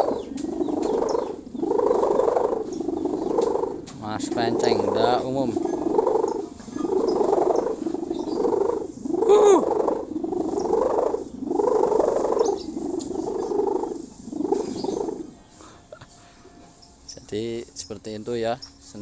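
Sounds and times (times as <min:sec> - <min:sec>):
kite hummer buzzing growl: 0:00.0 - 0:16.0.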